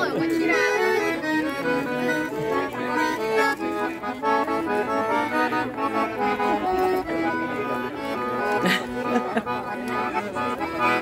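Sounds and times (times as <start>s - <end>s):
accordion playing a tune: 0.0s - 11.0s.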